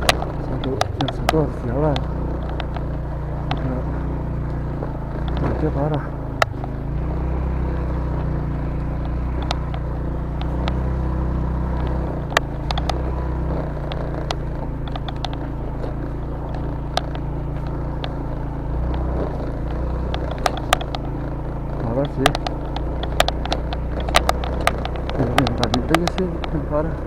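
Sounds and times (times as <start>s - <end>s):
motorcycle engine running: 0.0s - 27.0s
sharp clicks and knocks: 0.0s - 27.0s.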